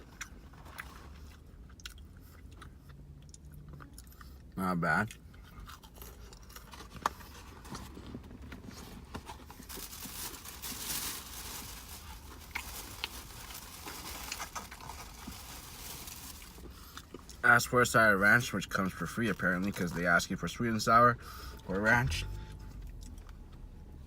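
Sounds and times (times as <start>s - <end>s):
chewing crispy food: 0.0s - 17.7s, 18.4s - 20.6s, 22.7s - 23.7s.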